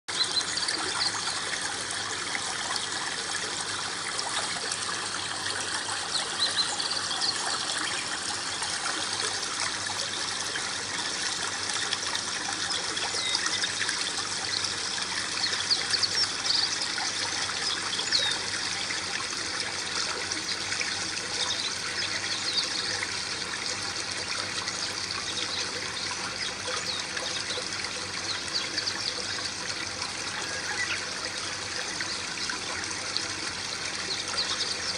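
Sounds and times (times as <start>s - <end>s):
small waterfall trickling: 0.1s - 34.9s.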